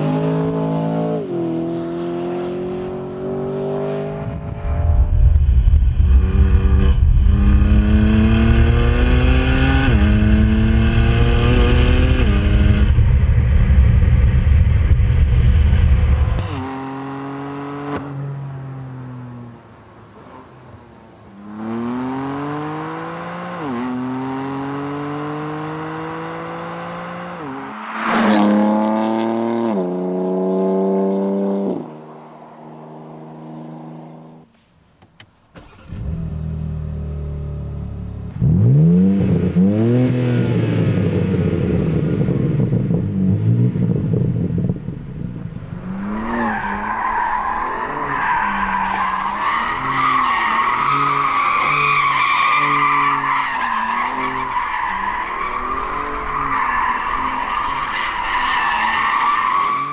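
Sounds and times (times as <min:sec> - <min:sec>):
car engine accelerating through gears: 0:00.0 - 0:19.4, 0:21.5 - 0:32.0, 0:35.6 - 0:54.8.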